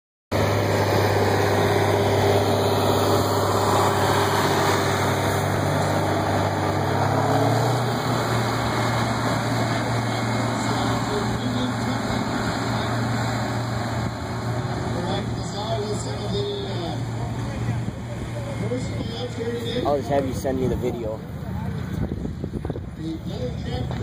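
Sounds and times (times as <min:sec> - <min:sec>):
diesel engines droning: 0:00.3 - 0:24.0.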